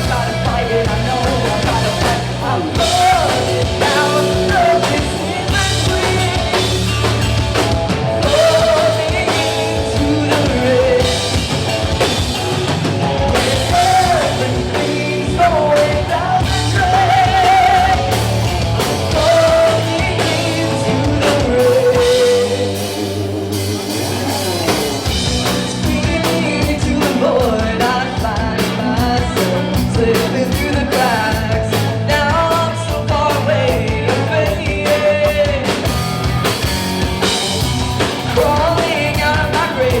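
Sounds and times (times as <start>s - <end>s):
person singing: 0.0s - 11.6s, 13.2s - 36.4s, 37.2s - 40.0s
bass guitar: 0.0s - 40.0s
drum kit: 0.0s - 40.0s
guitars: 0.0s - 40.0s.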